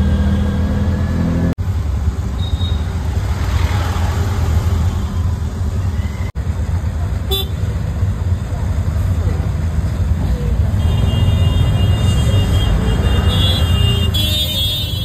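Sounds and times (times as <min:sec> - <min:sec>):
vehicle rumble and road traffic: 0:00.0 - 0:15.0.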